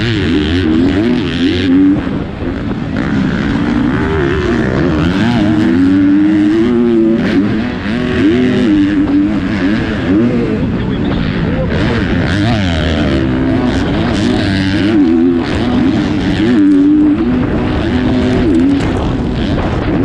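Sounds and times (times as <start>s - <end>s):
motocross bike engine revving: 0.0s - 20.0s
other dirt bikes: 0.0s - 20.0s.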